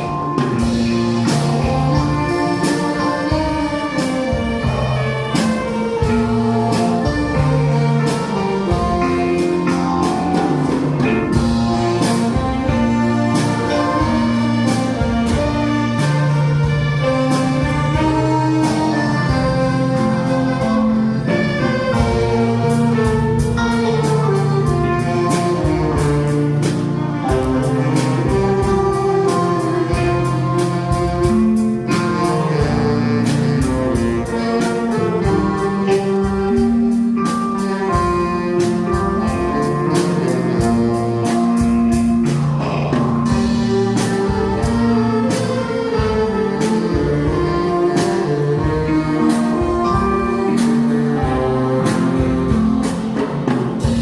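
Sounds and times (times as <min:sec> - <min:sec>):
band playing instrumental ballad: 0:00.0 - 0:54.0.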